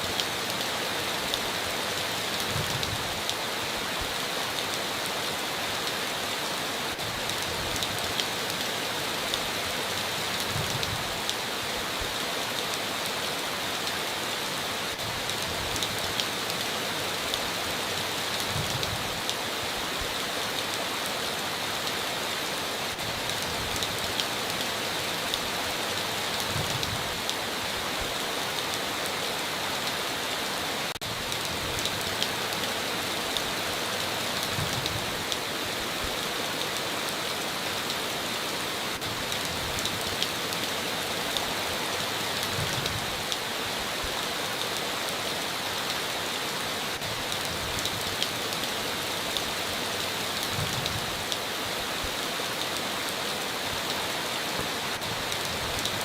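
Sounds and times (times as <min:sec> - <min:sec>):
heavy rain on a tin roof: 0:00.0 - 0:56.0.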